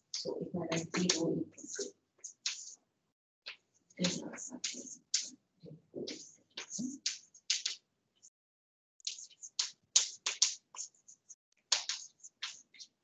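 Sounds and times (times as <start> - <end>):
chalk tapping and scratching: 0.0 - 2.8, 3.5 - 5.4, 6.0 - 8.3, 9.0 - 13.0.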